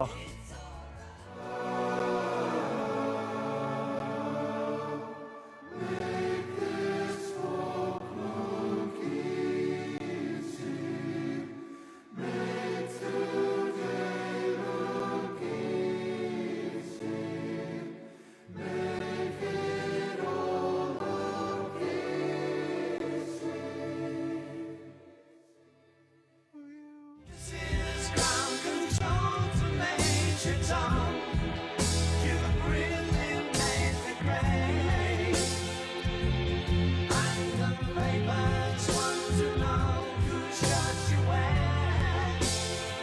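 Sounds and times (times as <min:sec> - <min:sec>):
choir singing sustained chords: 0:01.2 - 0:26.3, 0:27.3 - 0:43.0.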